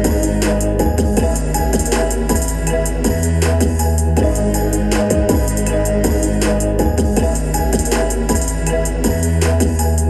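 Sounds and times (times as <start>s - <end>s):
bass-heavy music with drum beat: 0.0s - 10.0s.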